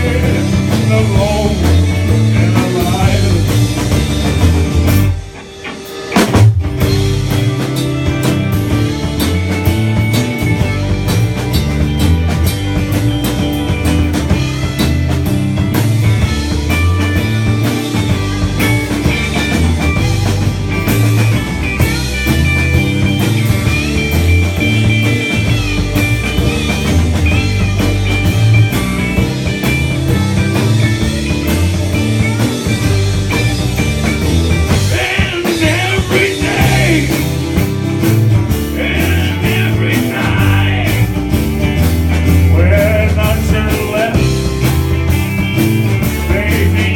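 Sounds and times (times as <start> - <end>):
bass guitar: 0.0 - 46.9
drum kit beat: 0.0 - 46.9
electric guitar: 0.0 - 46.9
lead guitar part: 0.0 - 46.9.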